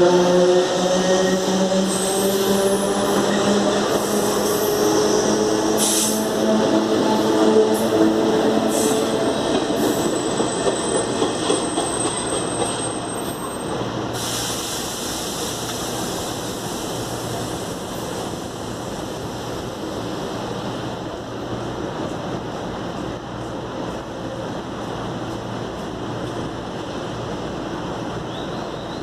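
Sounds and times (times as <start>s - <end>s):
wheel and rail rumble: 0.0s - 29.0s.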